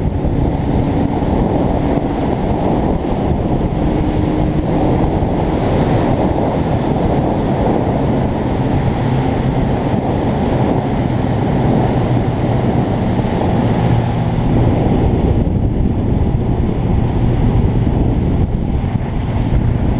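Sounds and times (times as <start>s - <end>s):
motorcycle engine droning: 0.0s - 19.9s
wind rushing on microphone: 0.0s - 19.9s.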